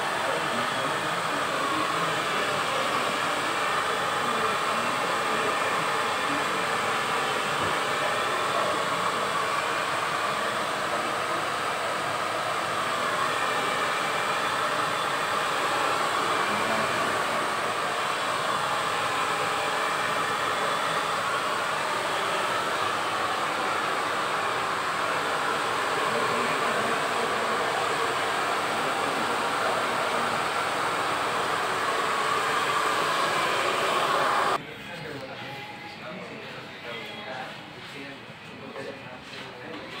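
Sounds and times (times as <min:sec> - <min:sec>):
hair dryer running: 0:00.0 - 0:34.6.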